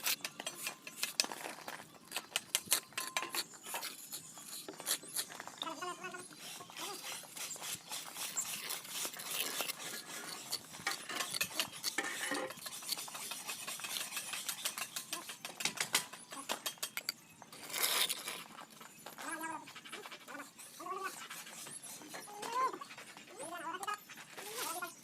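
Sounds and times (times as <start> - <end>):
trowel scraping mortar: 0.0 - 22.8.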